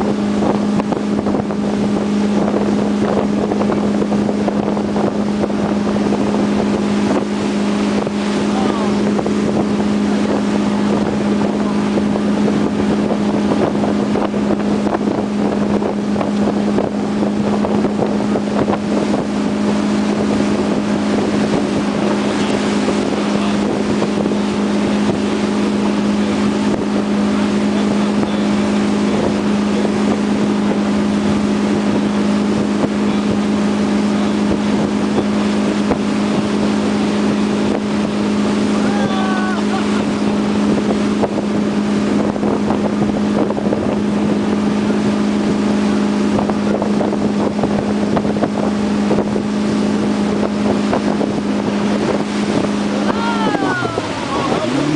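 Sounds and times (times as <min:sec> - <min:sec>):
boat engine droning: 0:00.0 - 0:54.9
water rushing: 0:00.0 - 0:54.9
wind buffeting microphone: 0:00.0 - 0:54.9.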